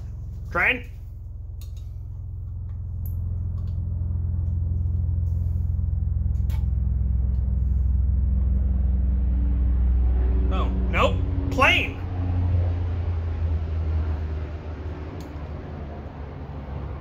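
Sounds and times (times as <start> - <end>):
helicopter rumbling overhead: 0.0 - 17.0.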